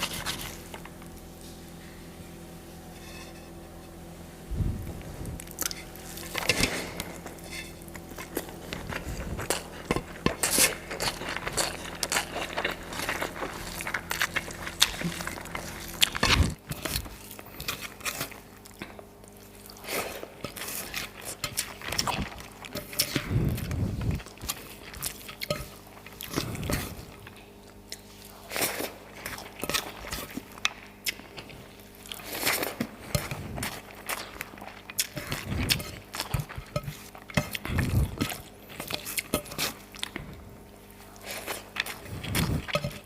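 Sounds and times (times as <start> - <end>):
crunching and chewing food: 0.0 - 2.0, 4.5 - 43.0
faint low hum: 0.0 - 43.0.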